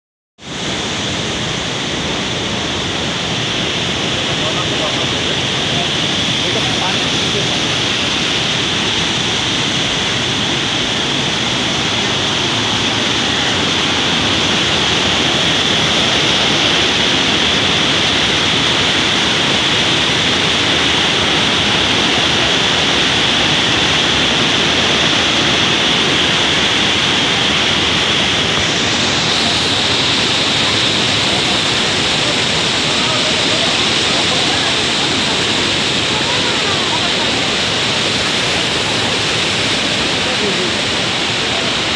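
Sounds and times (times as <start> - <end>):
waterfall rushing water: 0.4 - 41.9.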